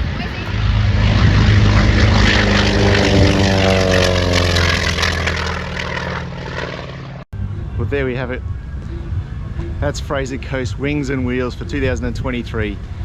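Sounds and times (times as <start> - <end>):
propeller aircraft flying past: 0.0 - 13.0.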